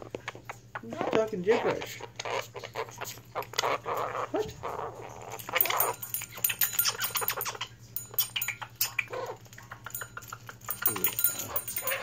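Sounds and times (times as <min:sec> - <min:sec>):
parrot babbling: 0:01.6 - 0:12.0.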